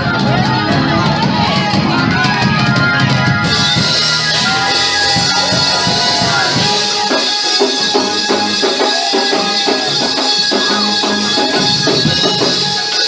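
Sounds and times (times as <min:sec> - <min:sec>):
up-tempo gospel music: 0:00.0 - 0:13.0.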